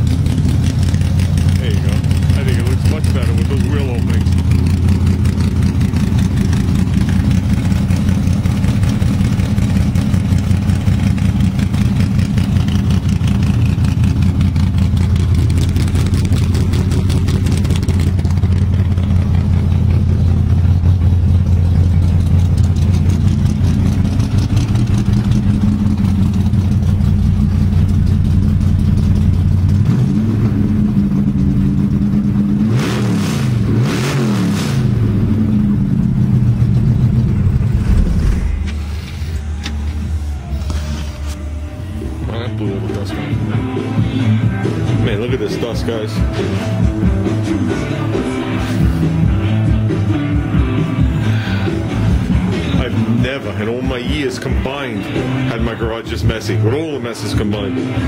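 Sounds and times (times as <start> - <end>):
drag car engine idling and revving: 0.0 - 58.0.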